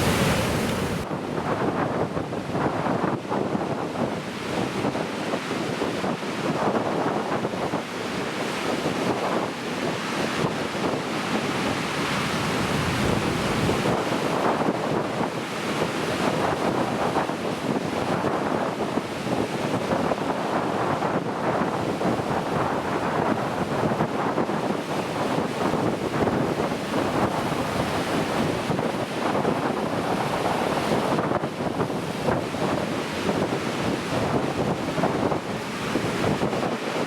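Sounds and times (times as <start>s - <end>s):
waves breaking on coast: 0.0s - 37.0s
wind buffeting microphone: 0.0s - 37.0s.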